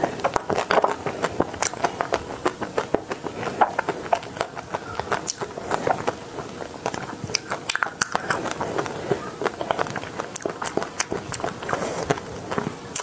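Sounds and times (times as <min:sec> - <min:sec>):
chewing ice cream bar: 0:00.0 - 0:13.0.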